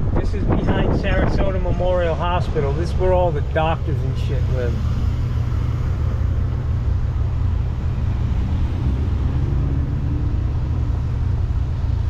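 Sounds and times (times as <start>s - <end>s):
traffic noise: 0.0s - 12.0s
car engine idling: 1.6s - 12.0s.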